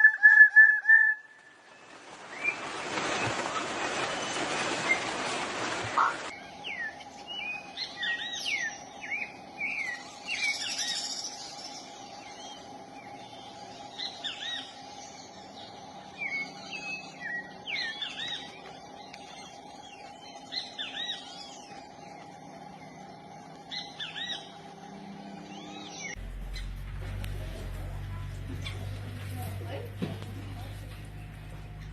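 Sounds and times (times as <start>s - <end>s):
small birds chirping: 6.0s - 31.9s
faint steady hum: 6.3s - 31.9s.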